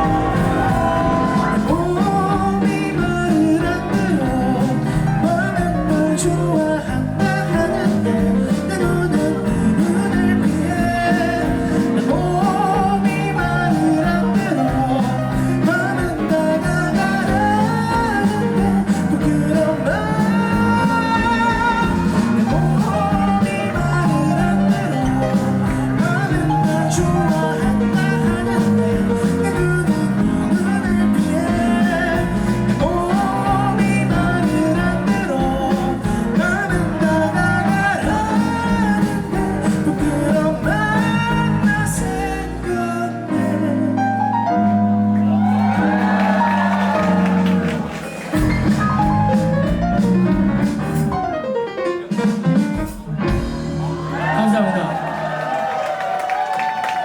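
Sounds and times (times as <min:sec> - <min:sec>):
lead vocal singing: 0:00.0 - 0:49.4
live rock band playing: 0:00.0 - 0:57.0.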